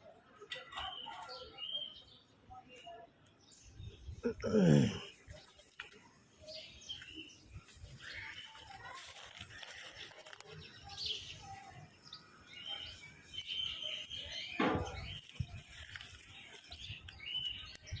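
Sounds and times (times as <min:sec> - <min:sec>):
birds chirping: 0:00.0 - 0:18.0
light outdoor background: 0:00.0 - 0:18.0.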